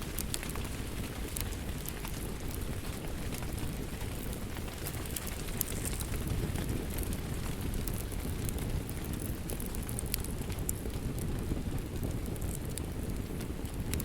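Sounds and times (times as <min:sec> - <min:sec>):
rain rumble: 0:00.0 - 0:14.0
wood fire crackling and popping: 0:00.0 - 0:14.0.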